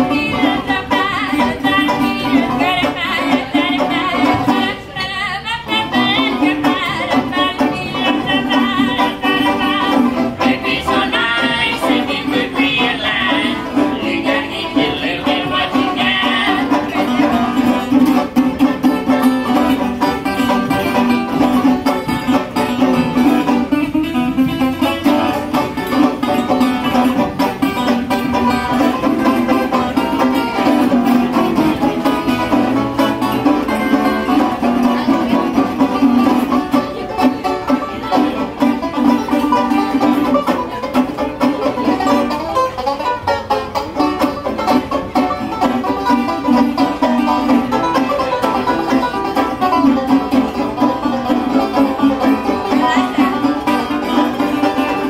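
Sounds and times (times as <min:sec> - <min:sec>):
banjo picking: 0:00.0 - 0:55.0
bluegrass string band: 0:00.0 - 0:55.0.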